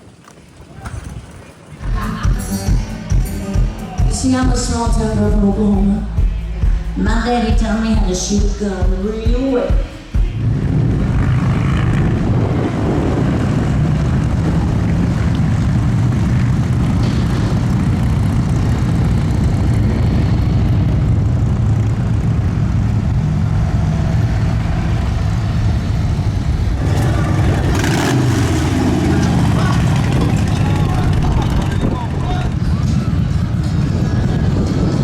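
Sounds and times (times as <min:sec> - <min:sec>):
motorcycle engines rumbling: 0:00.0 - 0:35.0.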